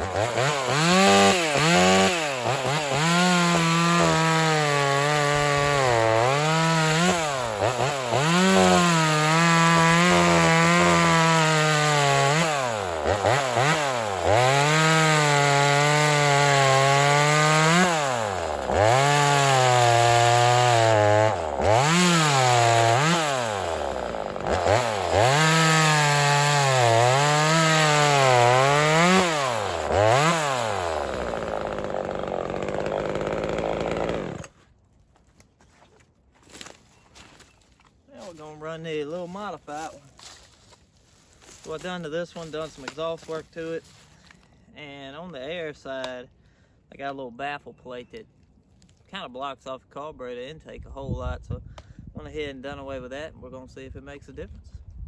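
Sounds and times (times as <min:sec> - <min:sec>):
chainsaw cutting logs: 0:00.0 - 0:35.6, 0:36.4 - 0:46.4.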